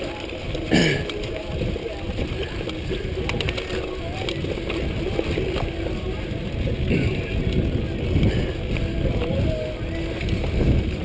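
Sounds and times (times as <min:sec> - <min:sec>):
bike rattling over bumps: 0:00.0 - 0:11.0
bike tyres rumbling on dirt: 0:00.0 - 0:11.0
wind on microphone: 0:00.0 - 0:11.0.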